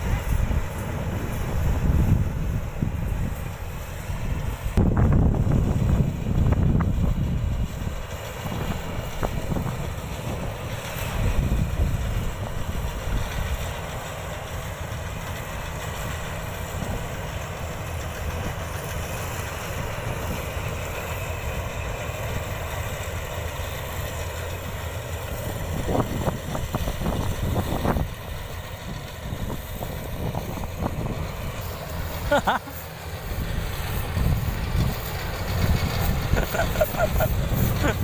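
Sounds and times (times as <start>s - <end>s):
combine harvester engine rumbling: 0.0s - 38.0s.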